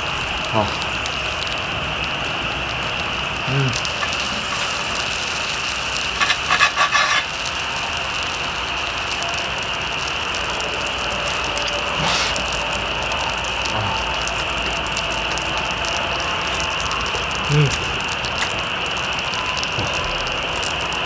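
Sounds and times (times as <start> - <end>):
fire clicks and crackles: 0.0 - 21.0
sizzling hiss: 0.0 - 21.0.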